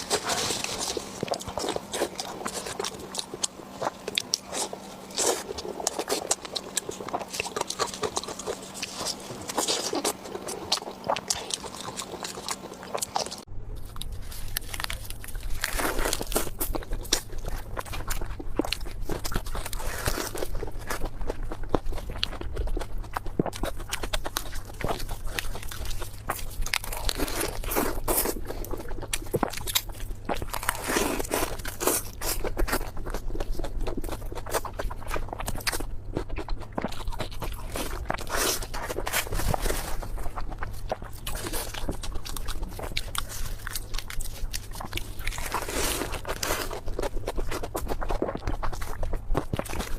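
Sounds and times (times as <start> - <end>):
low steady hum: 0.0 - 49.9
person chewing food: 0.0 - 49.9.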